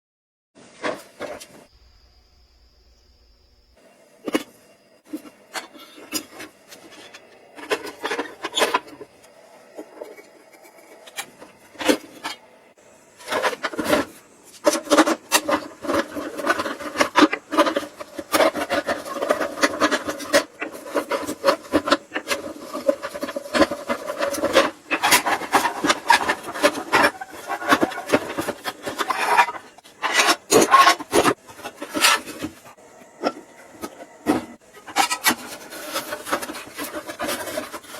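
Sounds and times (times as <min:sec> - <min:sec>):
rough scraping and rubbing: 0:05.1 - 0:37.9.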